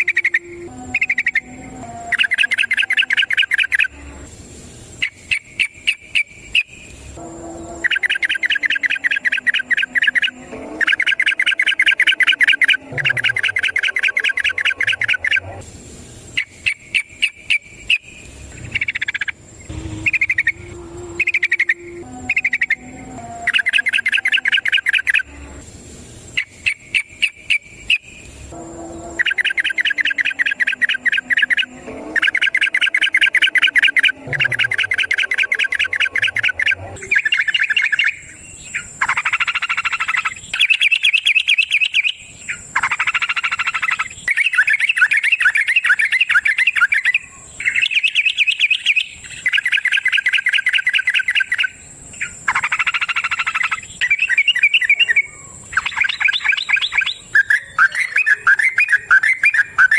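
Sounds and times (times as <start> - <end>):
bird singing rapid trill: 0.0 - 4.2, 4.9 - 15.6, 16.3 - 25.6, 26.3 - 59.9.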